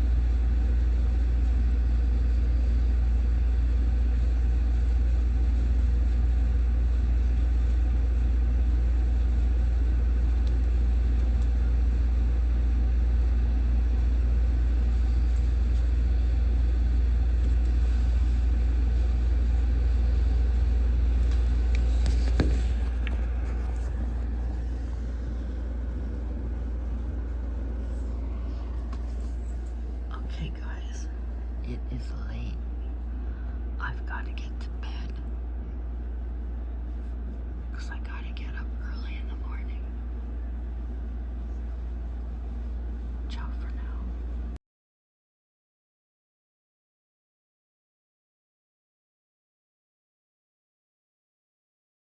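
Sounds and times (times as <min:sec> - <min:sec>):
low rumble: 0:00.0 - 0:44.6.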